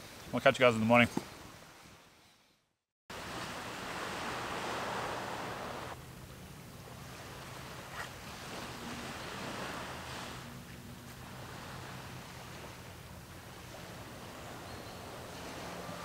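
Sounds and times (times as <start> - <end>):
wind: 0.0 - 16.0
river water rushing: 3.1 - 16.0.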